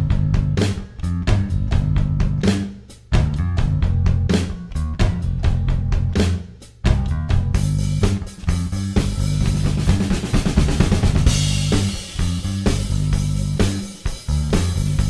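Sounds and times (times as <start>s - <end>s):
bass line: 0.0s - 15.0s
drum beat and roll: 0.0s - 15.0s
rock music: 0.0s - 15.0s.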